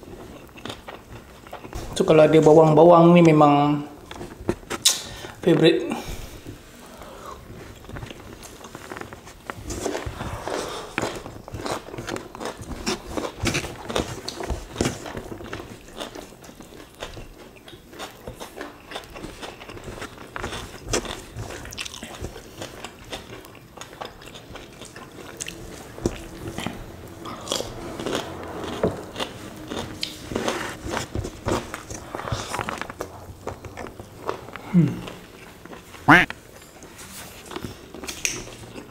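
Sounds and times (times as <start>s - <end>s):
wet chewing with mouth clicks: 0.0s - 1.8s, 7.2s - 38.9s.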